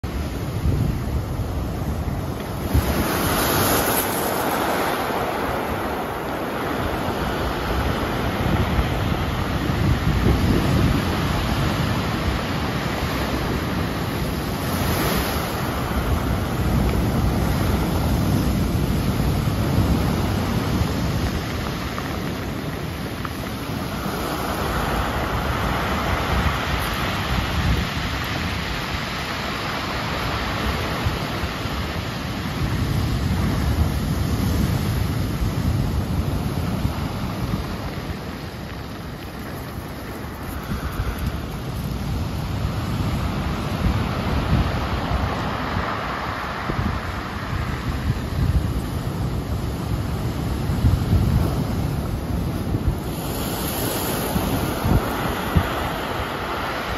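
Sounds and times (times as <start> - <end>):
surf breaking on rocks and pebbles: 0.1 - 56.9.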